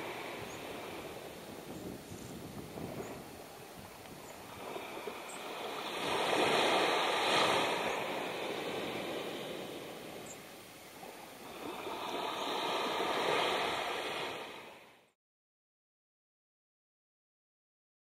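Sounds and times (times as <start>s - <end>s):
small waves lapping on sand: 0.0s - 15.1s.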